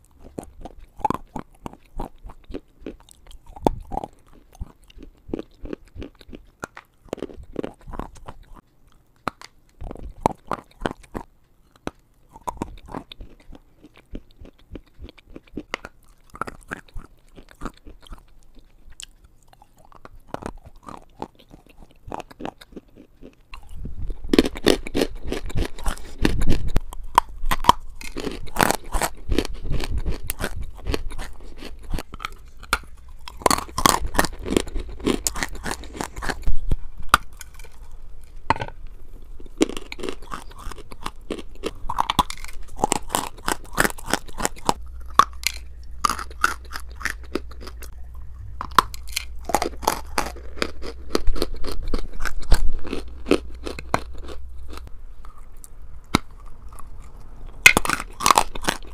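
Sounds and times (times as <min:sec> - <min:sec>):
chewing crunchy chalk: 0:00.0 - 0:58.9.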